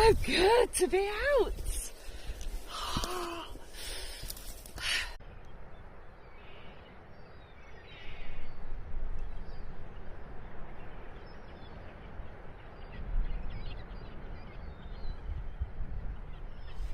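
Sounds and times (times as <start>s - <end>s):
wind gusting across microphone: 0.0s - 16.9s.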